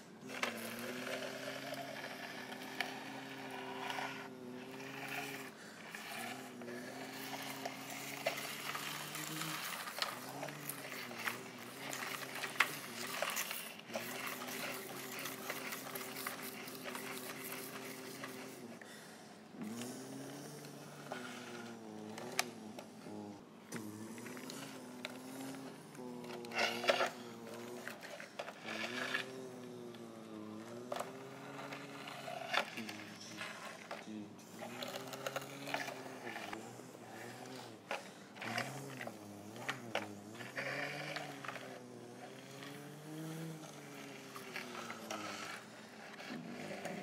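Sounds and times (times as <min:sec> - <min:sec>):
toy motor whirring: 0:00.0 - 0:47.0.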